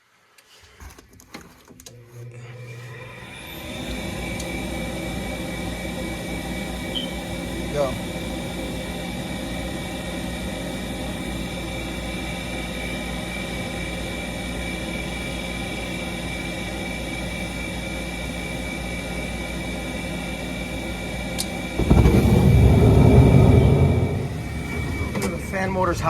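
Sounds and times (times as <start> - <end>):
furnace mechanical whir: 1.8 - 26.0
blower fan rough rumble: 3.3 - 26.0.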